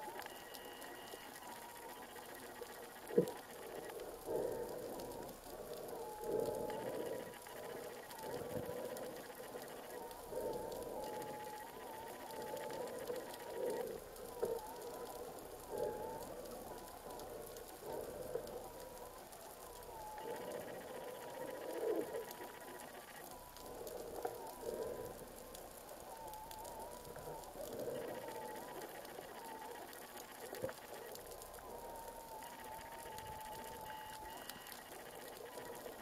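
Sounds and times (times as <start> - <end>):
faint wavering whine: 0.0 - 36.0
soft underwater swells: 0.0 - 36.0.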